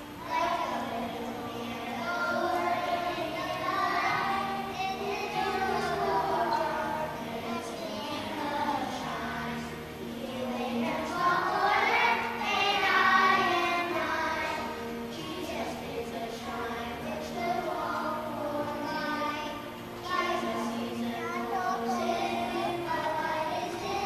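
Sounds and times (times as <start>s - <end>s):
children singing together: 0.0s - 24.0s
musical accompaniment: 0.0s - 24.0s.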